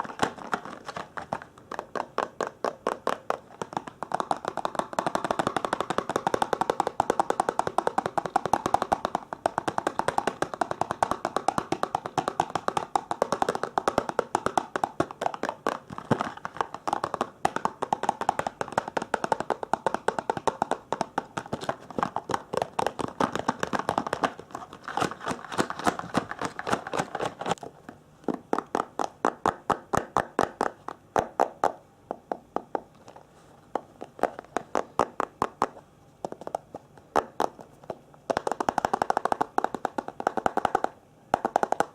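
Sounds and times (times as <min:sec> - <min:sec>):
fast tapping on hard object: 0:00.0 - 0:27.6, 0:28.2 - 0:41.9.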